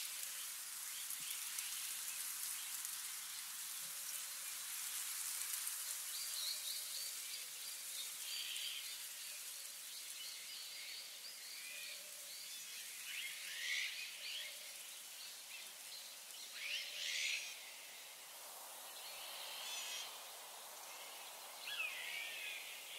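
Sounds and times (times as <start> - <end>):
steady high hiss: 0.0 - 22.9.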